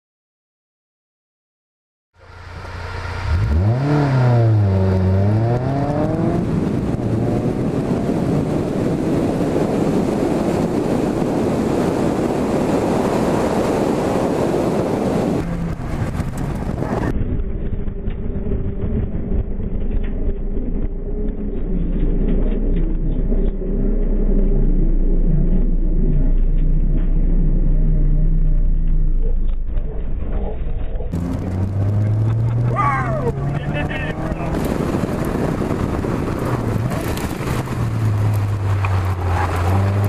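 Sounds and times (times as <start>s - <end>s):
car engine accelerating: 2.2s - 40.0s
wind noise on microphone: 3.3s - 40.0s.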